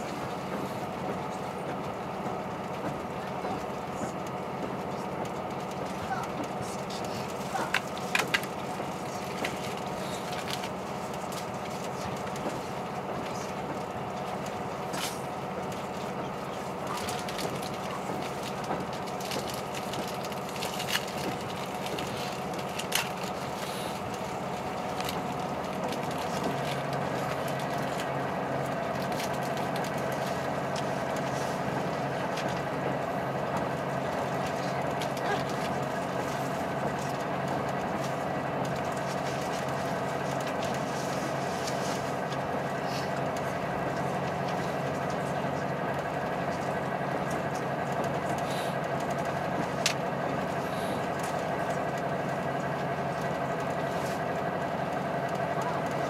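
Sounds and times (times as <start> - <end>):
deeper engine hum: 0.0 - 56.0
diesel engine drone: 0.0 - 56.0
train wheels rumbling on rail: 0.0 - 56.0.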